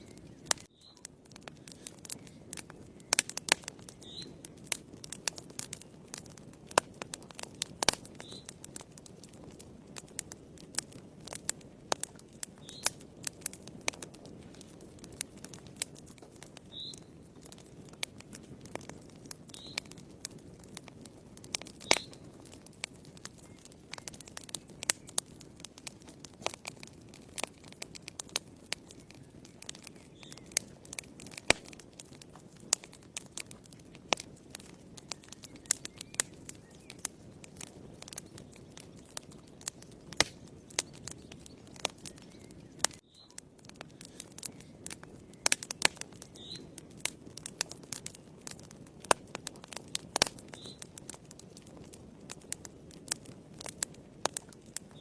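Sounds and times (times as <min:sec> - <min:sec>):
low rush of flame: 0:00.0 - 0:54.9
wood fire crackling and popping: 0:00.0 - 0:55.0.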